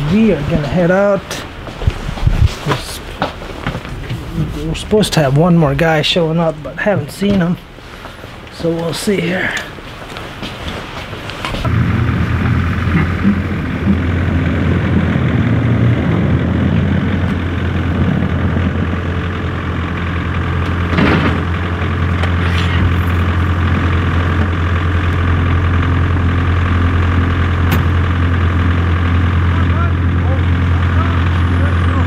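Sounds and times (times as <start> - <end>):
truck engine idling: 2.8 - 32.0.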